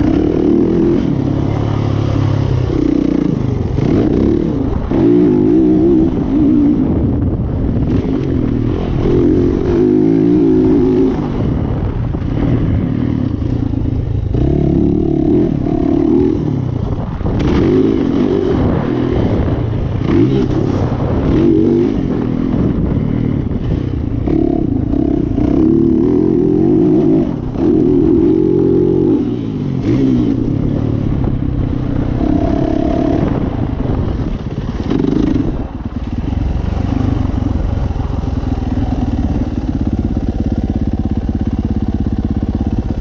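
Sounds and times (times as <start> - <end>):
motorbike engine revving: 0.0 - 43.0.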